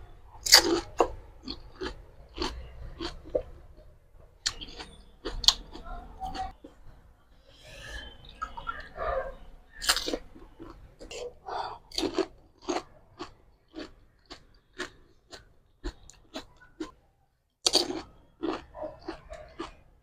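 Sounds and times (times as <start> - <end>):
chewing crisp fried shells: 0.4 - 6.8, 9.8 - 17.0, 17.6 - 20.0.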